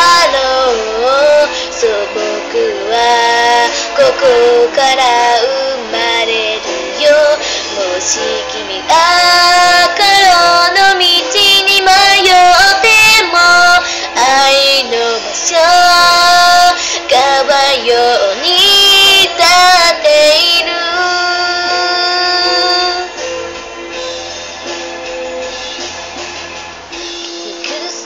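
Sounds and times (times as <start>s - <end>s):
woman singing pop song: 0.0s - 23.2s, 27.3s - 28.0s
backing music: 0.0s - 28.0s.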